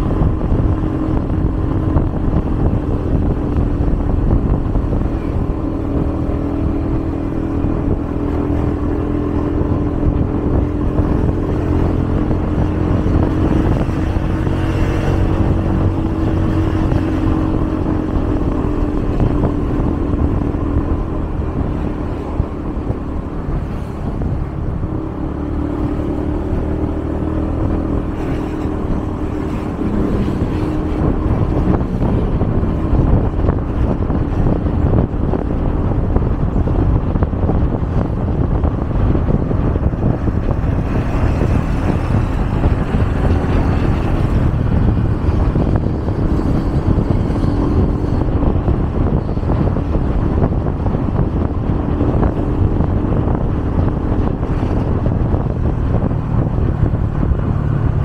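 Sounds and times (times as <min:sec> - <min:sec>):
low road rumble: 0:00.0 - 0:58.0
vehicle engine humming: 0:00.0 - 0:58.0.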